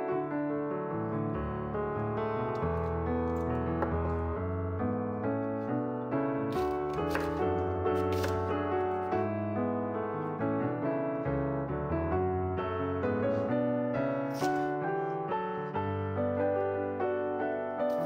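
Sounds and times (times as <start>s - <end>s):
background piano music: 0.0s - 18.0s.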